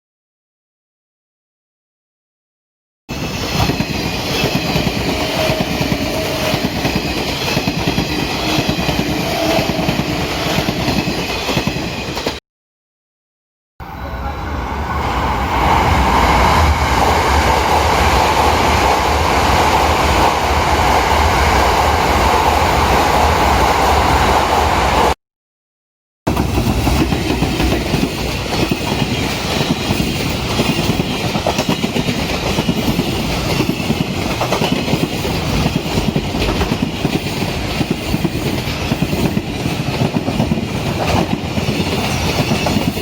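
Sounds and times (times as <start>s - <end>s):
train running past: 3.1s - 12.4s, 13.8s - 25.2s, 26.3s - 43.0s.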